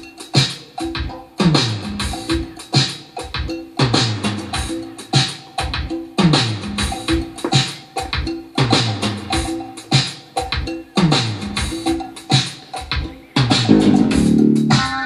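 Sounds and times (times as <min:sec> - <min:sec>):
music with heavy drum beat: 0:00.0 - 0:15.0.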